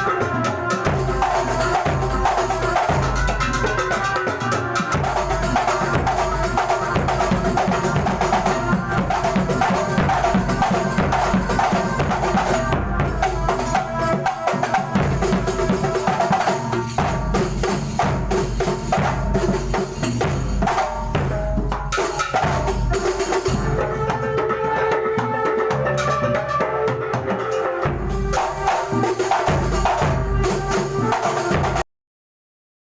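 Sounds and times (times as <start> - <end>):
drums beating fast rhythm: 0.0 - 31.8
pitched percussion melody: 0.0 - 31.8.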